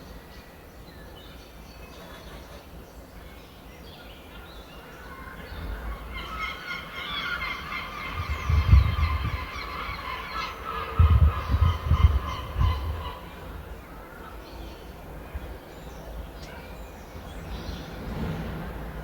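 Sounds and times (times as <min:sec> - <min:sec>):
birds calling: 0:00.0 - 0:18.5.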